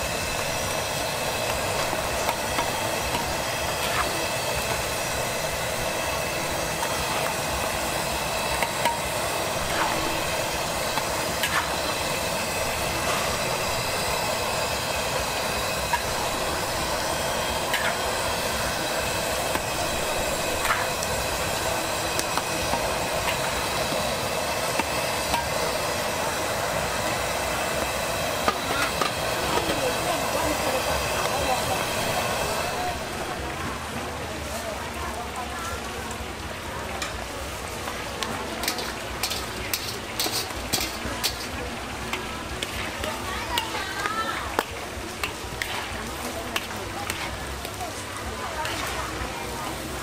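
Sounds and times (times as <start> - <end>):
squid deep-frying in oil: 0.0 - 50.0.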